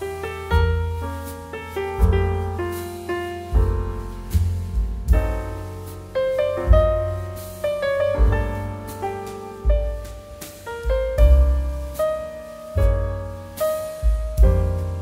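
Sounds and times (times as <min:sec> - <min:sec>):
low piano bass notes: 0:00.0 - 0:15.0
slow piano tune: 0:00.0 - 0:15.0.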